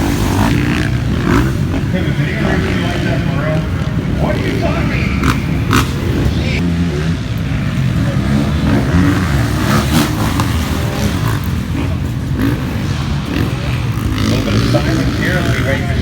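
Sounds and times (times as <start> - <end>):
motocross engines revving: 0.0 - 16.0.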